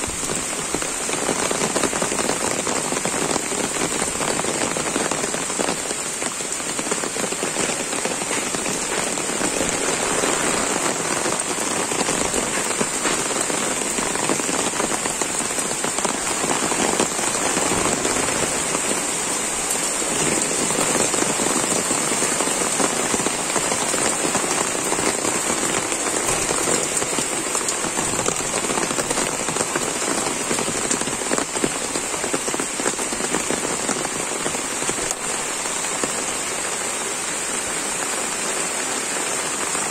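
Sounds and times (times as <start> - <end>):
rain falling on wet ground: 0.0 - 39.9.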